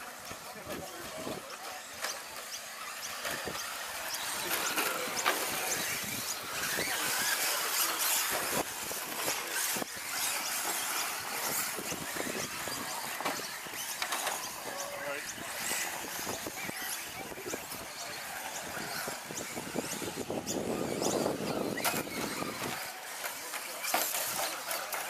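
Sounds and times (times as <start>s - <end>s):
high motor whines: 0.0s - 25.0s.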